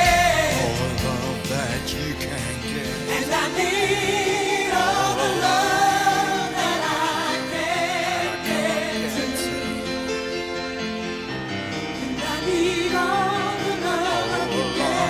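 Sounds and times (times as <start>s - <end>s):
held backing chords: 0.0s - 15.0s.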